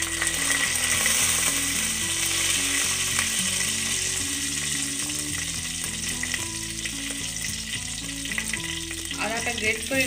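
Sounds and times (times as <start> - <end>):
oil sizzling in a pot: 0.0 - 10.0
soft background music: 0.0 - 10.0.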